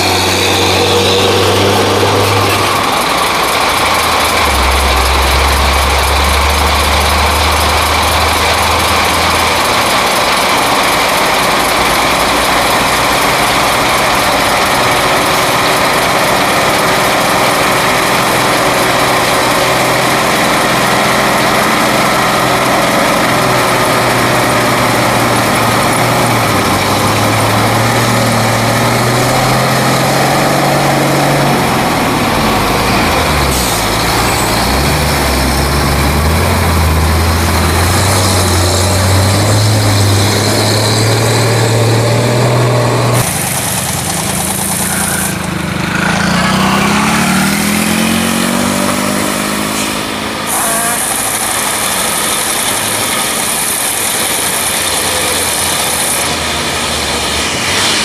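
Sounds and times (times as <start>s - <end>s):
truck diesel engine pulling past: 0.0s - 58.0s.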